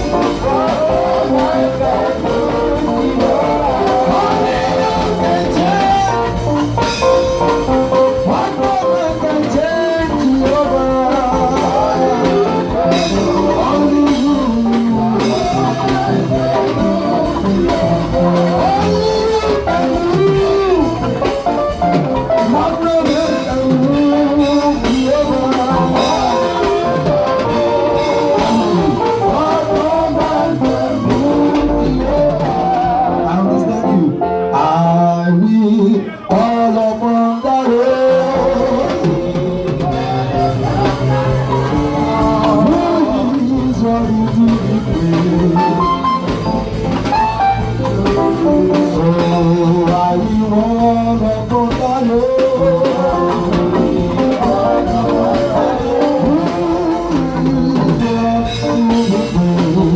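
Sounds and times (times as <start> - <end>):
music with singing and drums: 0.0 - 59.9.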